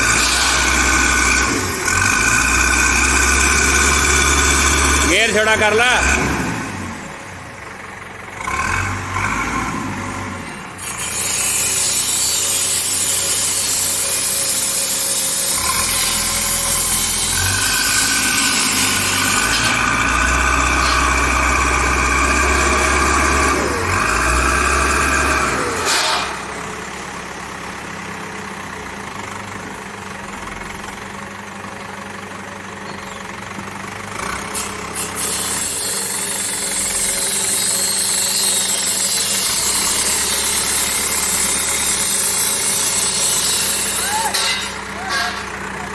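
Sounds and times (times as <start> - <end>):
backhoe diesel engine running: 0.0 - 45.9.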